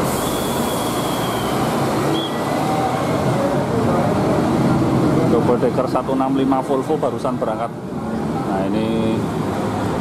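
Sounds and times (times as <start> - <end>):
bus diesel engine running: 0.0 - 10.0.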